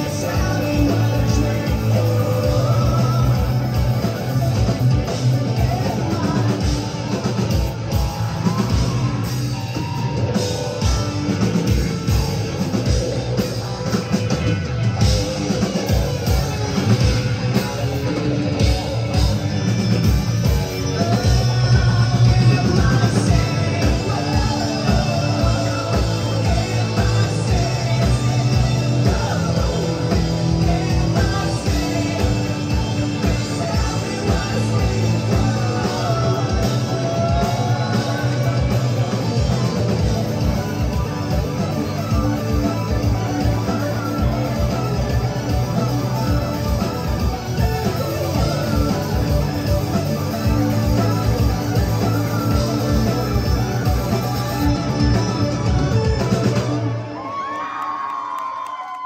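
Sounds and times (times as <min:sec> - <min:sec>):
lead vocal singing: 0:00.0 - 0:14.3, 0:15.0 - 0:56.7
bass guitar: 0:00.0 - 0:57.6
electric guitar: 0:00.0 - 0:59.0.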